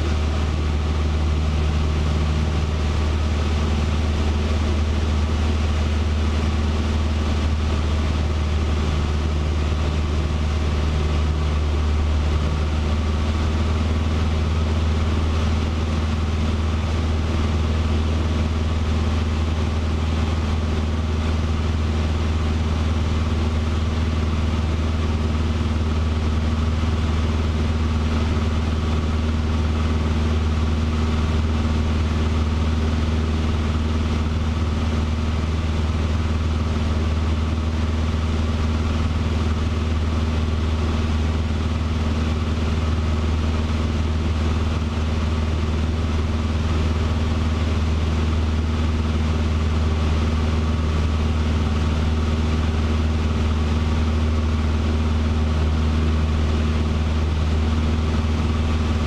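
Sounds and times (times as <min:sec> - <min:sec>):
airplane engine and propeller droning: 0:00.0 - 0:59.0.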